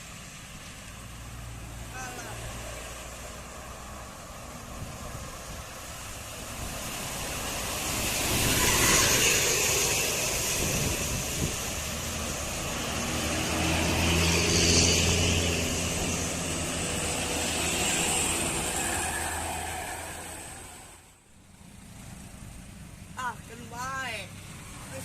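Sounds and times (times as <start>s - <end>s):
heavy vehicle engine drone: 0.0s - 23.6s
vehicle passing: 0.0s - 25.0s.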